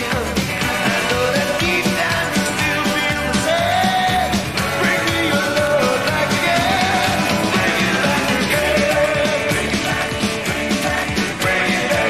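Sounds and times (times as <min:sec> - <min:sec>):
person singing lead vocal: 0:00.0 - 0:12.0
rockabilly band playing live: 0:00.0 - 0:12.0.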